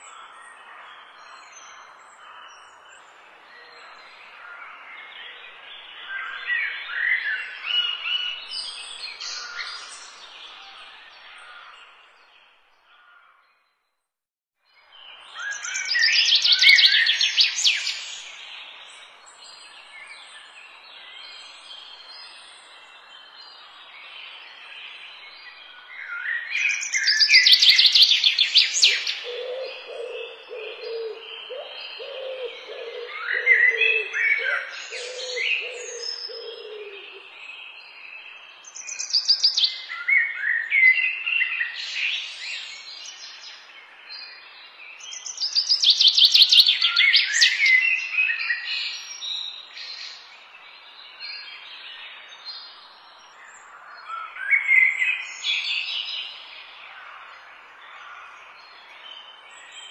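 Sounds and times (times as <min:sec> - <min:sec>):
songbirds singing and chirping: 0:00.0 - 0:13.9, 0:14.6 - 0:59.9.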